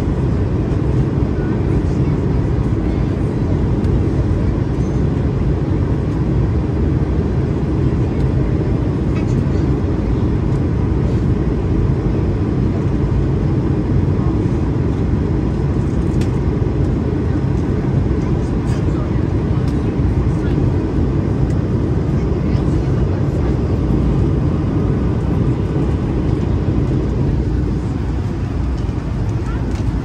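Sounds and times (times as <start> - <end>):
airplane cabin roar: 0.0 - 30.0.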